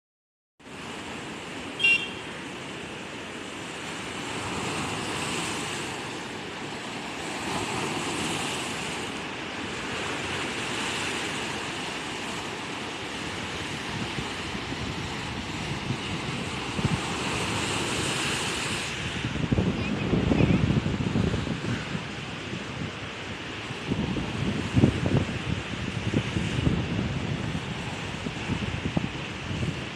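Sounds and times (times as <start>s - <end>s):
sea waves washing on shore: 0.6s - 29.9s.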